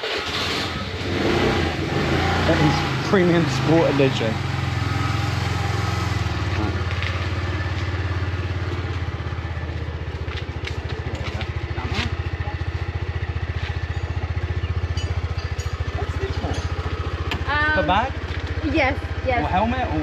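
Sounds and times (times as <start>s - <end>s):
scooter engine idling: 1.8s - 20.0s.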